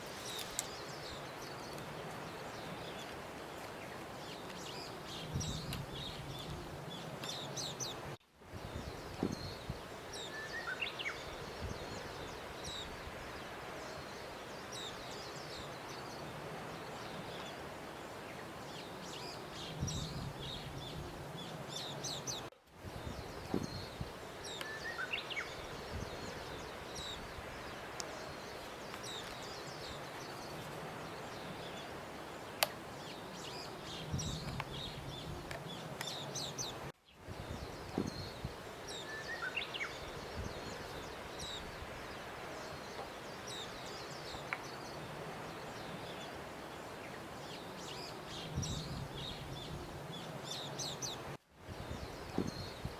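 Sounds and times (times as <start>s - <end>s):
small birds chirping: 0.0s - 52.9s
steady background hiss: 0.0s - 52.9s.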